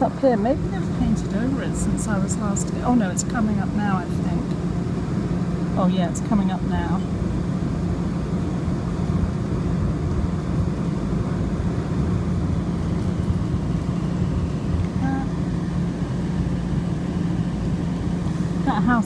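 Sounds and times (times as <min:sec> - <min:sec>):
constant low hum: 0:00.0 - 0:19.0
light-rail car rumbling on track: 0:00.0 - 0:19.0.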